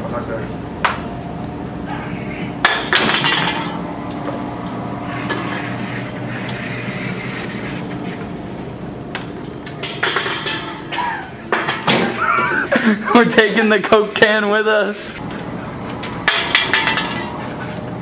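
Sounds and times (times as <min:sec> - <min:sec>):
vending machine hum: 0:00.0 - 0:18.0.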